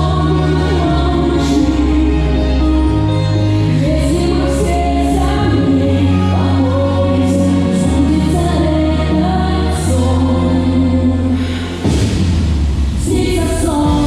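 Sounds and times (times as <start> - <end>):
bass line: 0.0 - 14.0
choir-like vocal chords: 0.0 - 14.0.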